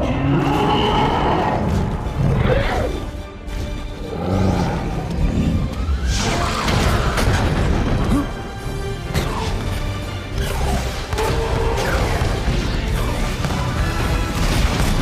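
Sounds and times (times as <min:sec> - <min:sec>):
dramatic orchestral music: 0:00.0 - 0:15.0.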